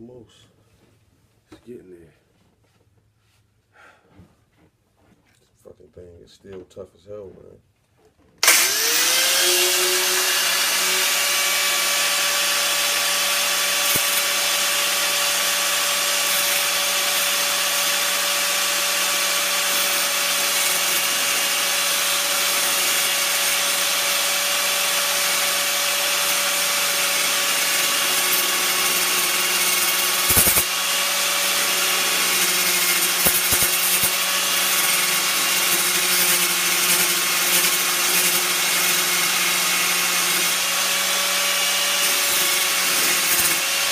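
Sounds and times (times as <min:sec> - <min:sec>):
angle grinder grinding steel: 0:08.4 - 0:43.9.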